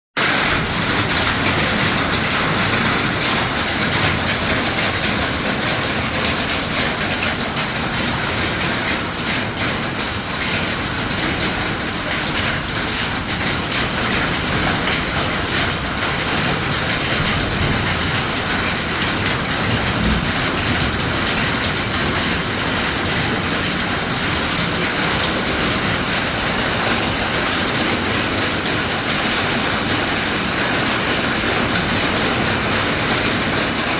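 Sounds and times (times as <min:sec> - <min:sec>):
heavy rain and hail: 0:00.2 - 0:33.9.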